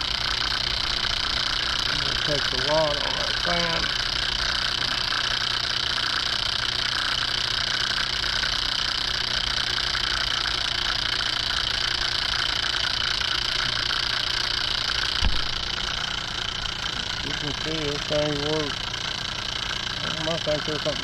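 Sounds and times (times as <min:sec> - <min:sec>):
generator mechanical whir and hum: 0:00.0 - 0:21.0.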